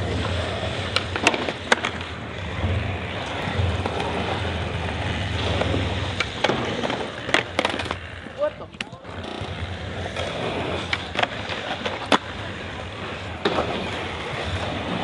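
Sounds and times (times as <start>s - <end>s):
skateboard wheels rolling on concrete: 0.0s - 15.0s
sharp skateboard clacks: 0.2s - 15.0s.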